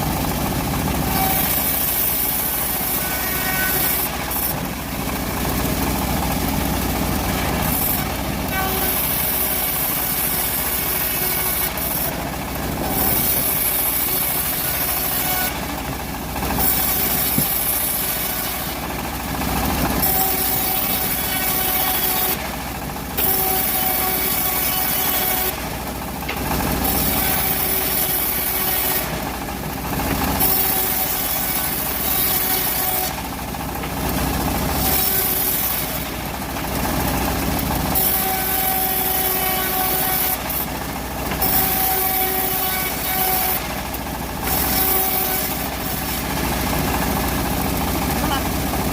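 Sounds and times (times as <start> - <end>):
bandsaw mill running: 0.0 - 48.9.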